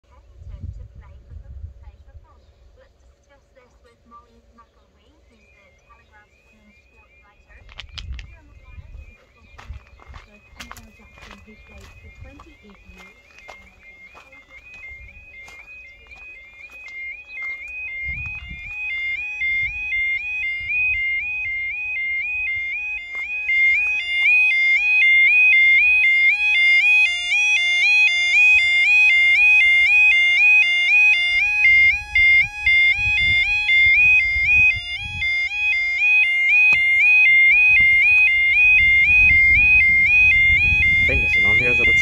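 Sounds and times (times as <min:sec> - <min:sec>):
level crossing alarm warbling: 0:00.0 - 0:42.0.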